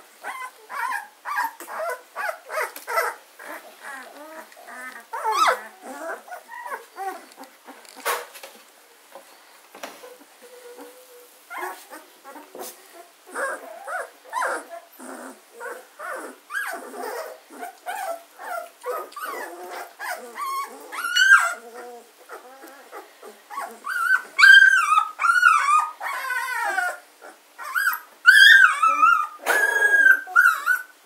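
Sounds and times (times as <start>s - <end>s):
puppies whimpering and squeaking: 0.2s - 8.2s, 10.0s - 31.0s.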